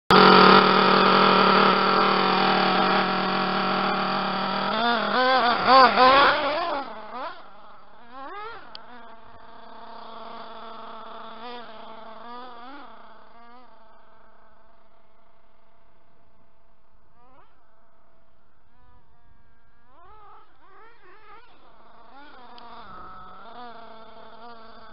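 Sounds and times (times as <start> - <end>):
model car engine revving: 0.1 - 24.9.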